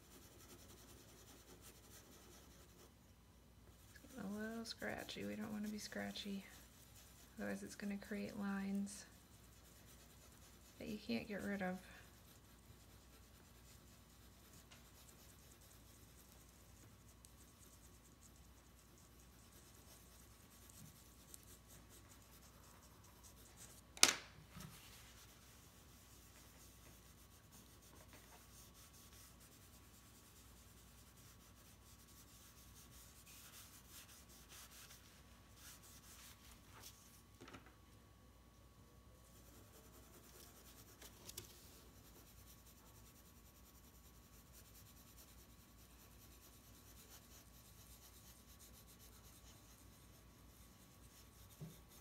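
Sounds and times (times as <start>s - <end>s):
pencil shading on paper: 0.0s - 3.0s, 3.8s - 23.8s, 25.0s - 37.0s, 39.2s - 52.0s
tissue rubbing on paper: 0.0s - 23.9s, 24.5s - 37.3s, 39.2s - 52.0s.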